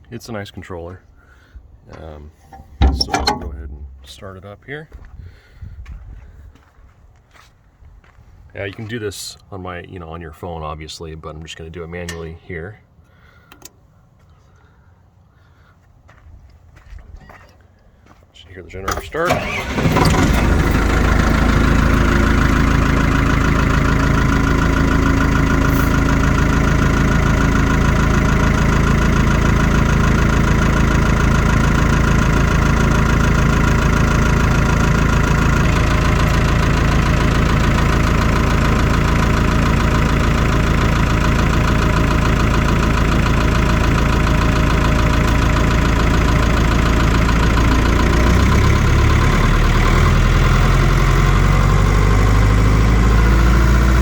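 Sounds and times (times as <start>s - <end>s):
diesel generator engine running: 0.4s - 7.4s, 11.0s - 16.2s, 18.0s - 54.0s.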